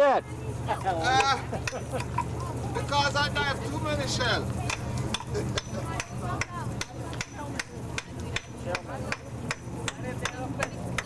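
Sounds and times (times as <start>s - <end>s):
faint voices: 0.0s - 11.0s
sharp taps in steady rhythm: 0.8s - 11.0s.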